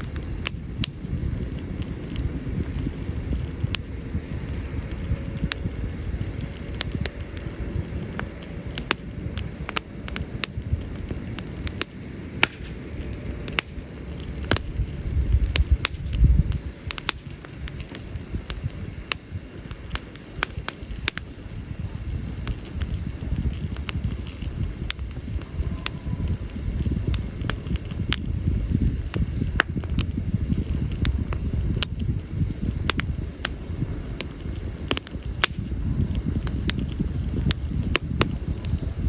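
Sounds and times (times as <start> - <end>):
campfire crackling and popping: 0.0 - 39.0
low fire rumble: 0.0 - 39.0.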